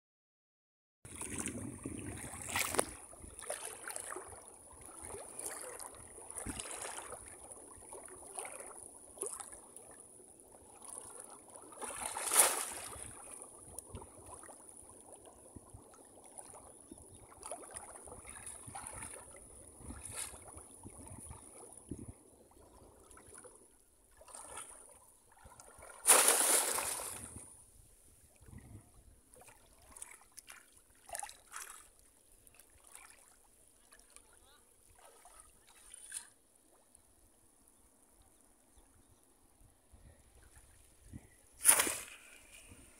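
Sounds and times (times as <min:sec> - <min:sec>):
water sloshing and splashing: 0:01.1 - 0:10.0, 0:10.6 - 0:27.6, 0:29.3 - 0:36.9, 0:40.4 - 0:42.9.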